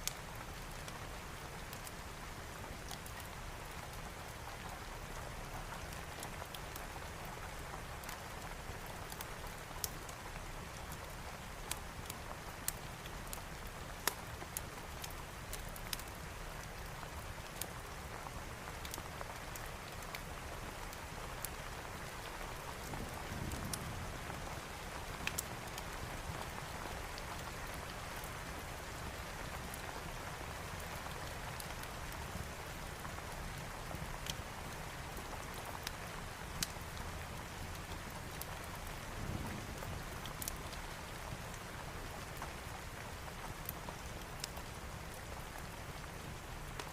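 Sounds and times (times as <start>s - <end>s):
fire crackling and popping: 0.0s - 1.0s, 2.7s - 46.9s
steady rain: 0.0s - 46.9s.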